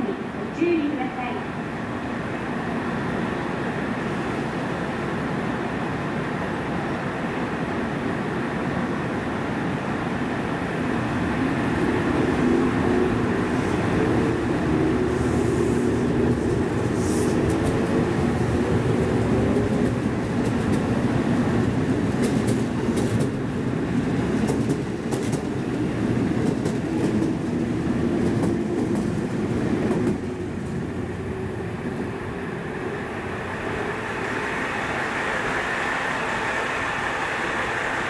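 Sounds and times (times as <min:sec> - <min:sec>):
train hum: 0:00.0 - 0:38.0.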